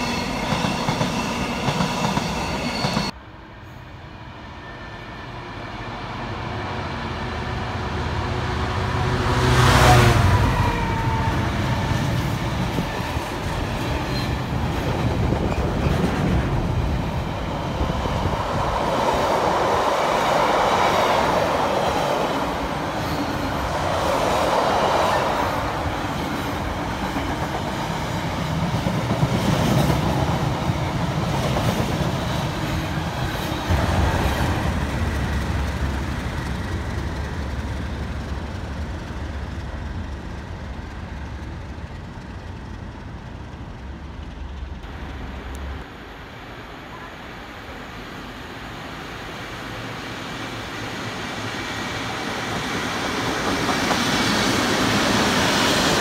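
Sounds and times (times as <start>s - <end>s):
diesel locomotive passing: 0.0s - 56.0s.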